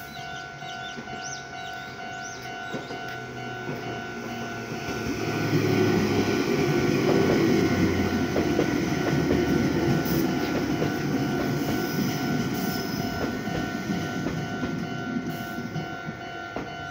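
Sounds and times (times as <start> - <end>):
crossing alarm two-tone ring: 0.0 - 16.9
train wheels clacking over joints: 0.8 - 16.9.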